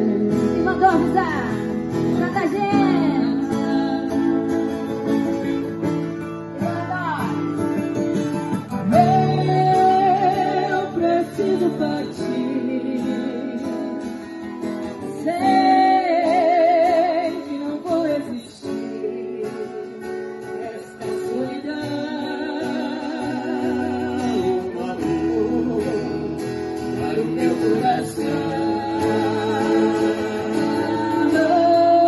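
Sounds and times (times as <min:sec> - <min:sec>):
women singing with vibrato: 0:00.0 - 0:05.4, 0:08.8 - 0:14.4, 0:15.0 - 0:32.0
strummed acoustic guitar: 0:00.0 - 0:32.0.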